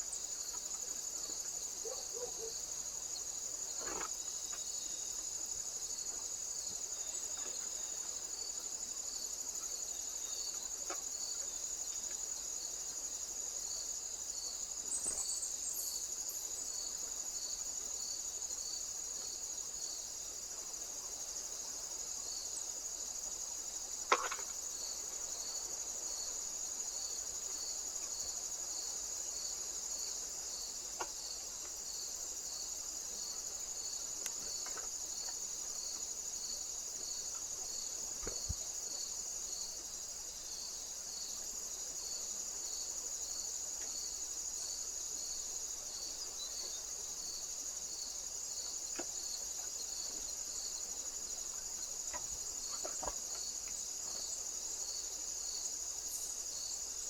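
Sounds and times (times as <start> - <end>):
insects trilling: 0.0 - 57.0
soft insect chirp: 0.0 - 57.0.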